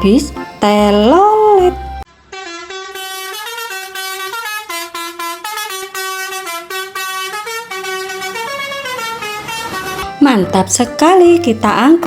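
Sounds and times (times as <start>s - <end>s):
musical bus horn tune: 0.0s - 12.0s.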